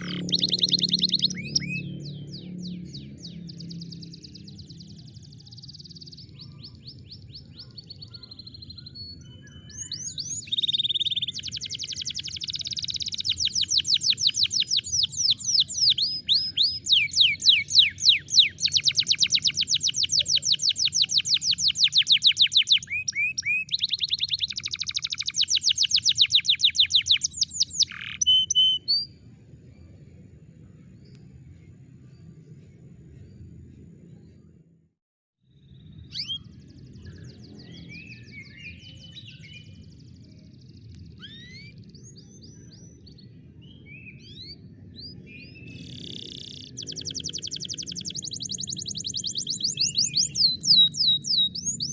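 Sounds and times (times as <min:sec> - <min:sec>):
canary singing trills: 0:00.0 - 0:29.2, 0:35.7 - 0:43.3, 0:44.2 - 0:51.9.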